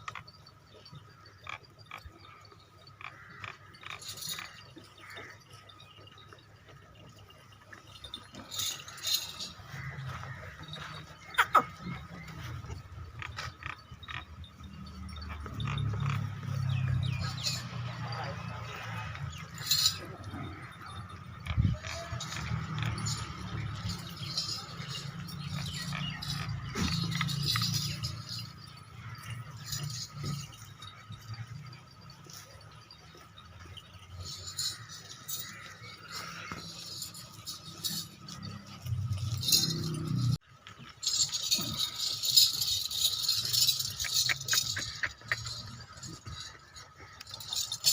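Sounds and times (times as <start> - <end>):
faint clinks and taps: 0.0 - 47.9
goats calling: 0.0 - 47.9.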